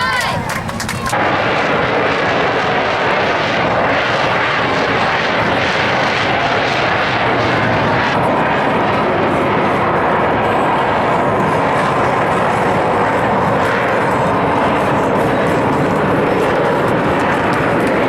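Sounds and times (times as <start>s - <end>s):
jet aircraft flying past: 0.0s - 18.0s.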